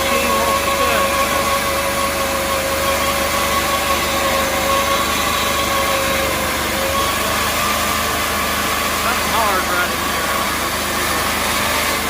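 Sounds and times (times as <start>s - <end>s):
sawmill cutting board: 0.0s - 12.0s.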